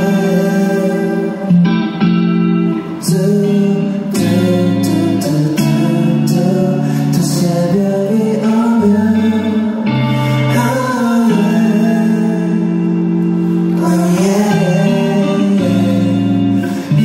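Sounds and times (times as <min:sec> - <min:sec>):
man singing into a microphone: 0:00.0 - 0:02.0, 0:02.8 - 0:17.0
live band playing: 0:00.0 - 0:17.0.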